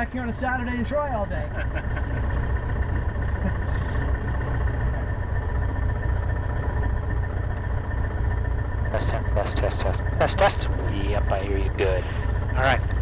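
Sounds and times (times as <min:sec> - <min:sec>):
aircraft engine idling: 0:00.0 - 0:13.0.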